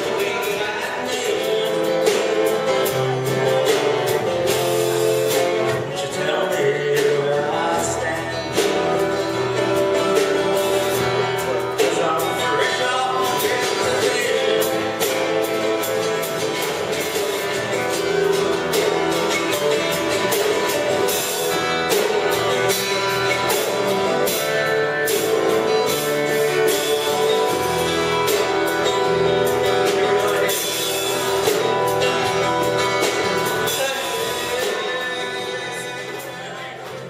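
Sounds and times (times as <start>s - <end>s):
live band with strummed guitars: 0.0s - 37.0s.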